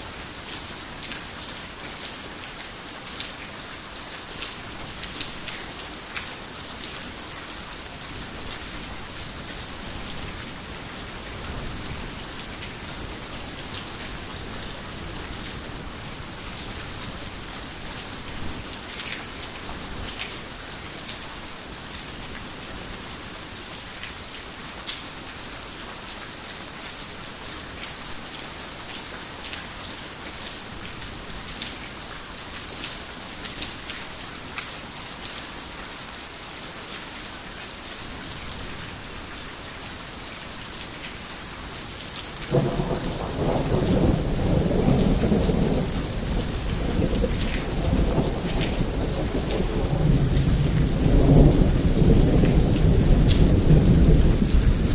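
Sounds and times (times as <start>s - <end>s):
heavy rain on a roof: 0.0s - 54.9s.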